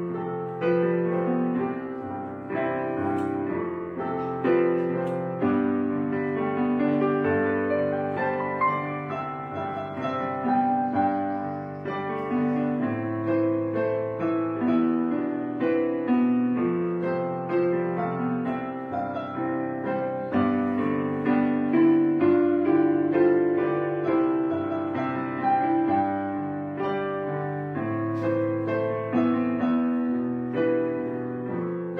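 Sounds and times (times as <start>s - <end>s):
background piano music: 0.0s - 31.9s.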